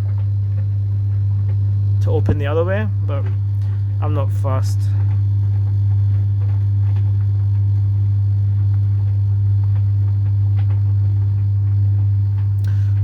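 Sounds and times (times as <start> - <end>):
tumble dryer humming: 0.0 - 13.0.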